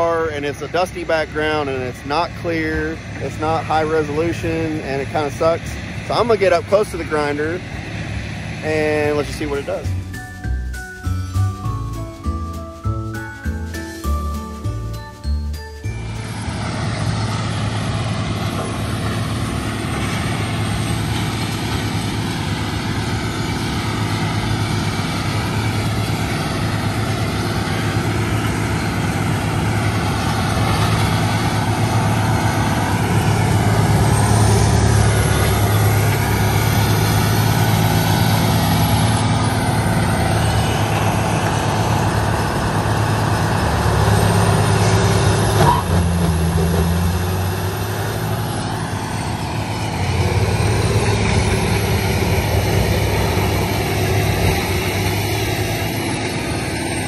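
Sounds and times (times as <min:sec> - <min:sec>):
excavator working: 0:00.0 - 0:57.0
wood grinder diesel engine droning: 0:00.0 - 0:57.0.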